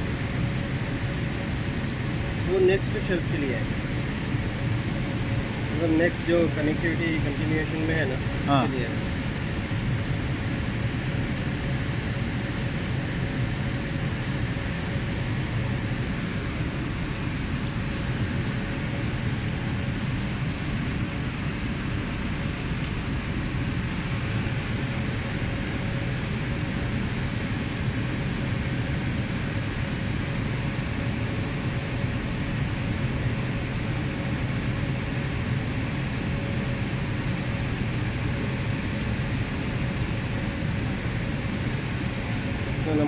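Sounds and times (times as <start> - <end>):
cooling fans whirring: 0.0 - 43.0.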